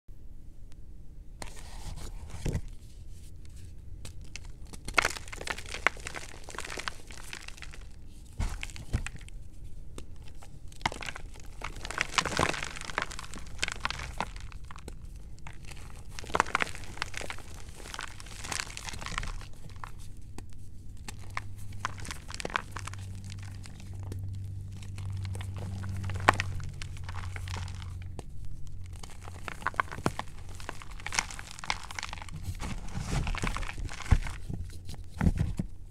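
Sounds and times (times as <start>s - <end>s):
hands crushing chalk: 3.4s - 35.9s.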